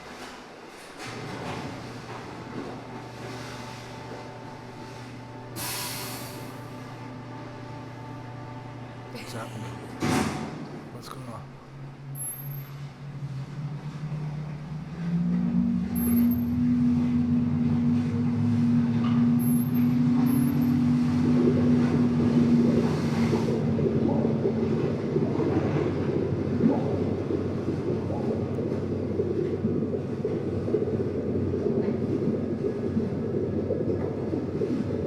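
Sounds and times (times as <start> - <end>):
rough continuous rumble: 0.0 - 35.0
vehicle engine drone: 1.0 - 35.0.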